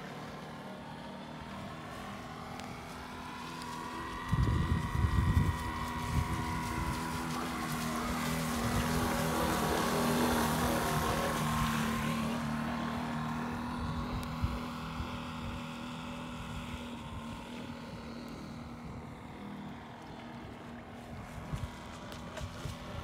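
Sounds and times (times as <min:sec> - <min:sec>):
model engine buzzing: 0:00.0 - 0:23.0.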